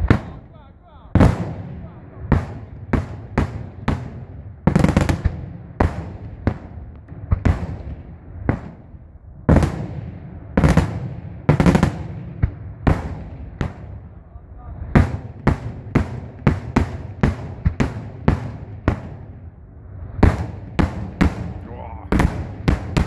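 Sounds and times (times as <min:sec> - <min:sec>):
fireworks bursting with echo: 0:00.0 - 0:23.0.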